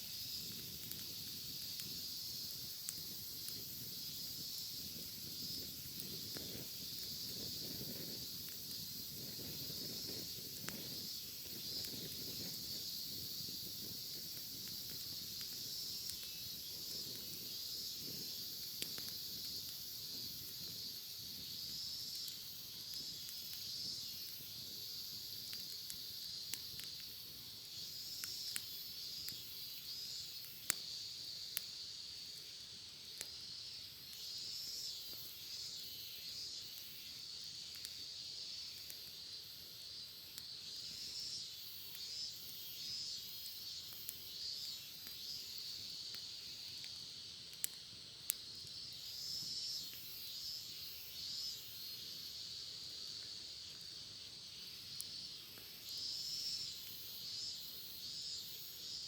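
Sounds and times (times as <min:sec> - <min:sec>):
campfire crackling and popping: 0:00.0 - 0:59.0
cicadas singing: 0:00.0 - 0:59.0.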